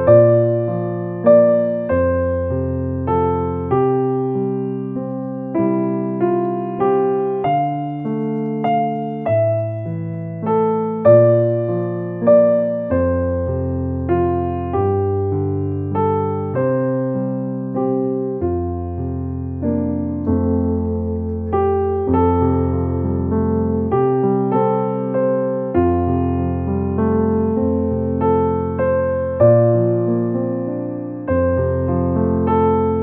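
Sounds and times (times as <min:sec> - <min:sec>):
slow gentle piano music: 0:00.0 - 0:33.0.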